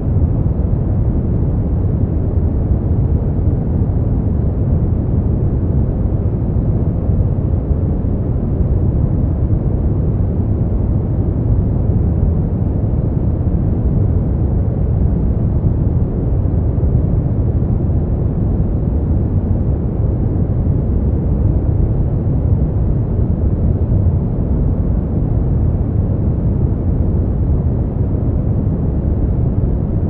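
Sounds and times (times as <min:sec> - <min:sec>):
deep rumbling white noise: 0:00.0 - 0:30.0.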